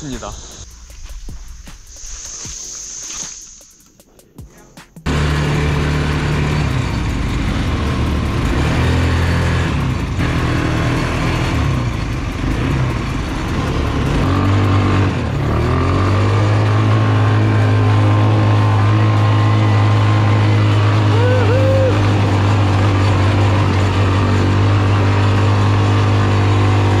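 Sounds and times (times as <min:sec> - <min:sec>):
quad bike engine running: 0:05.0 - 0:27.0.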